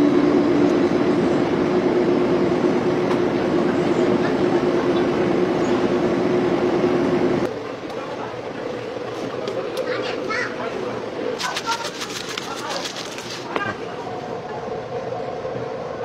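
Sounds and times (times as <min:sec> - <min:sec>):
ice cream machine humming: 0:00.0 - 0:16.0.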